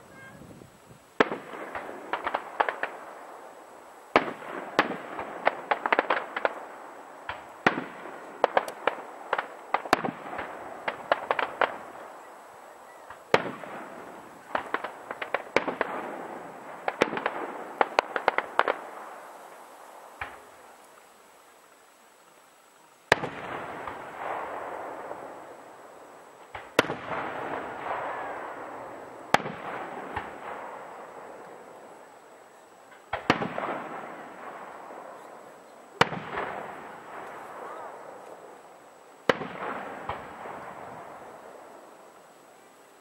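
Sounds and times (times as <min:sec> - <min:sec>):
fireworks bangs: 0:00.0 - 0:20.8, 0:23.1 - 0:42.2
crackling fireworks pops: 0:00.0 - 0:21.1, 0:23.1 - 0:43.0.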